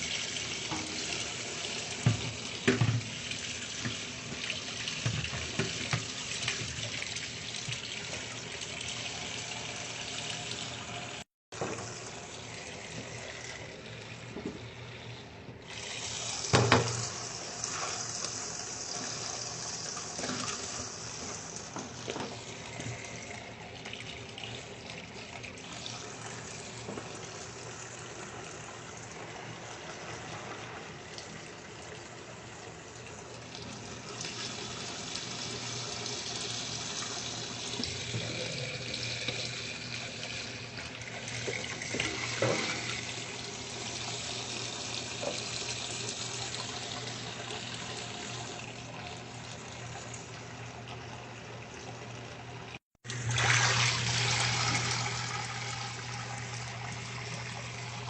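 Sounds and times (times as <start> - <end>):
water running into washing machine: 0.0 - 58.0.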